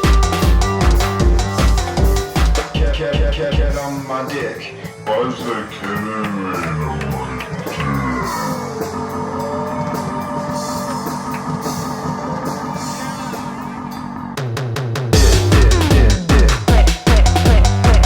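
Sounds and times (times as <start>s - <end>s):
guitar and drums music: 0.0s - 13.8s, 14.4s - 18.0s.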